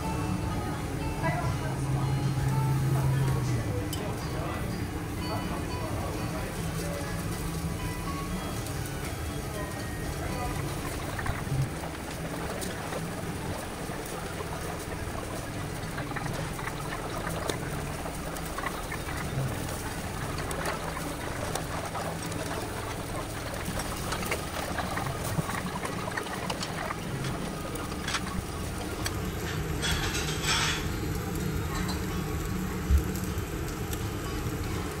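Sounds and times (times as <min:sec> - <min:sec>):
chicken sizzling on grill: 0:00.0 - 0:35.0.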